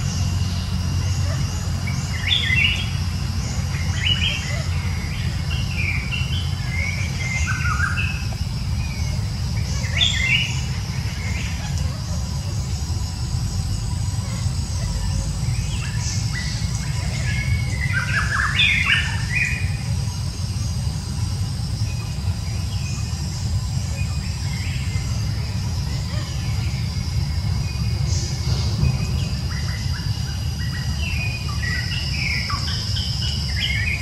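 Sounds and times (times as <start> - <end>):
low rumble: 0.0 - 33.8
birds chirping: 0.0 - 34.0
steady high whine: 0.0 - 34.0.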